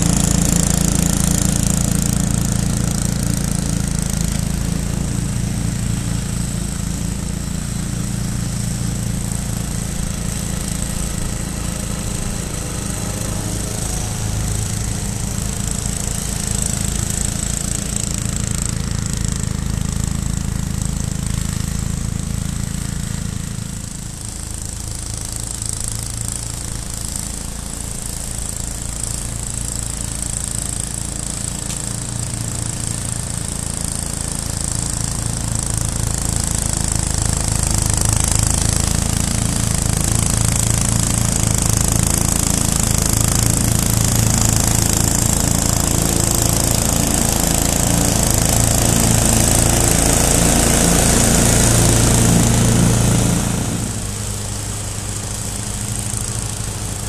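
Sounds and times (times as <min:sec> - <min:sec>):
lawn mower engine cutting grass: 0:00.0 - 0:57.0.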